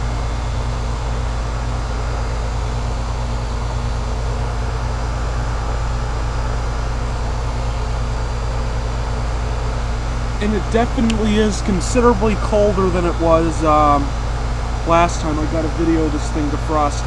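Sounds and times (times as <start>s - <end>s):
heat pump unit humming: 0.0s - 17.0s.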